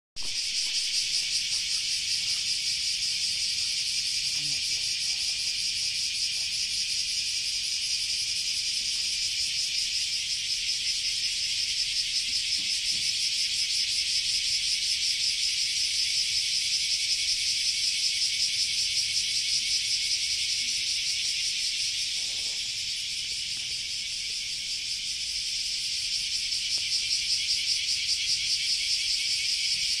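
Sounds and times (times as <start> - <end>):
insects trilling: 0.2 - 30.0.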